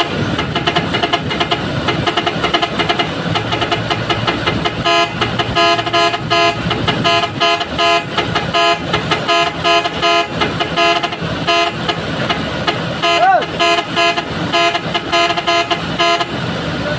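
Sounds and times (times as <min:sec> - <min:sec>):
vehicle horn tooting: 0:00.0 - 0:16.4.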